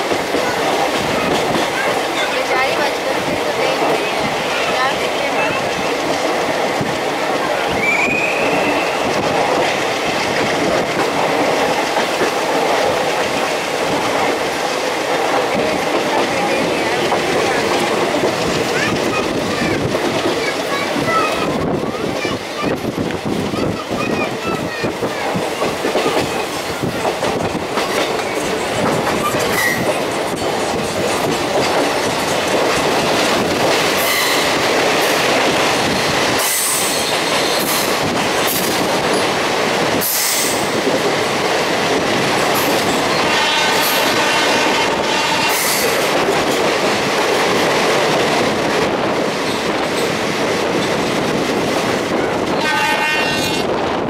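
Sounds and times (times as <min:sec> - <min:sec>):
train rail clatter: 0:00.0 - 0:54.0.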